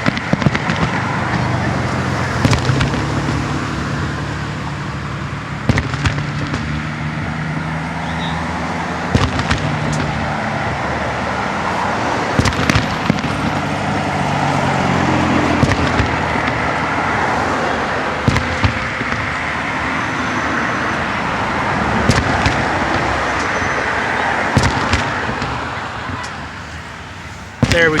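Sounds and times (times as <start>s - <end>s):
car engine humming: 0.0s - 28.0s
fireworks bursting with bangs: 0.0s - 28.0s
road traffic: 0.0s - 28.0s.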